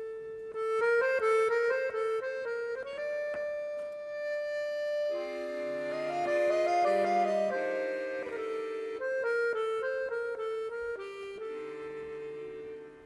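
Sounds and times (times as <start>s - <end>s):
accordion low chords: 0.0s - 13.0s
accordion melody: 0.0s - 13.0s.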